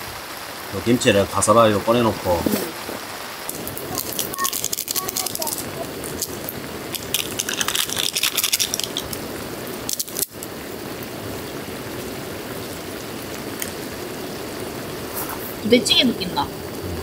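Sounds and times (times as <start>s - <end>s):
food crackling in pan: 0.0s - 17.0s
food hissing in pan: 1.5s - 17.0s.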